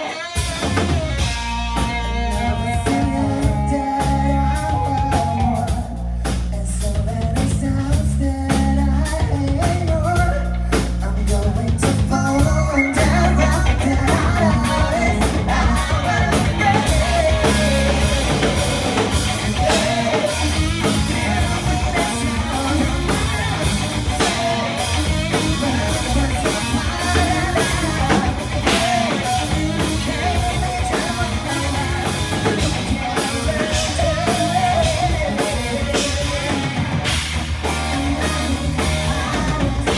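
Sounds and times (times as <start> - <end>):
person singing: 0.0 - 39.9
rock band playing live: 0.0 - 39.9.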